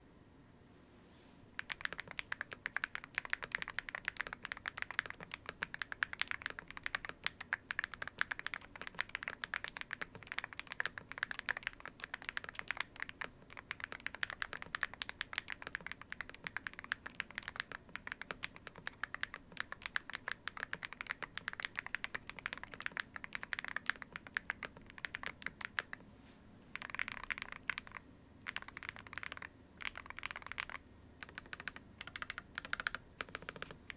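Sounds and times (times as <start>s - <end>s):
mechanical keyboard typing: 1.6s - 26.0s, 26.7s - 33.9s.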